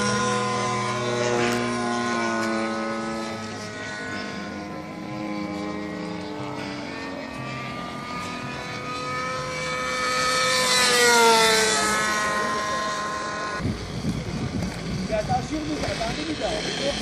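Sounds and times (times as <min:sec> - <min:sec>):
model airplane engine passing: 0:00.0 - 0:17.0.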